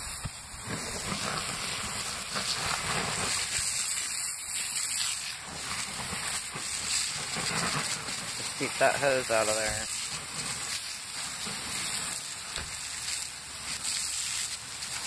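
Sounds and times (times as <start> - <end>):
hose spraying water: 0.0 - 15.0
steam hissing from embers: 0.0 - 15.0.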